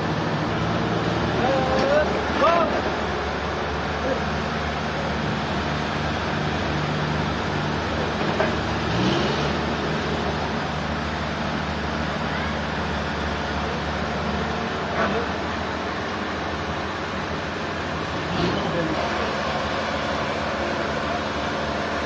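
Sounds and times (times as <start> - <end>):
engine-driven machinery running: 0.0 - 22.0.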